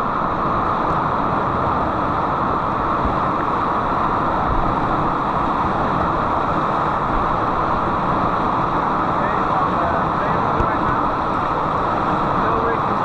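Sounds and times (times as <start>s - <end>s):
whitewater rapids rushing: 0.0s - 13.0s.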